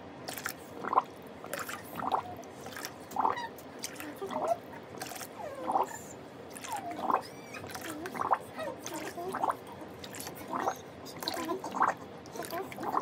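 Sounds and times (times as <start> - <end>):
water splashing in a bucket: 0.2 - 13.0.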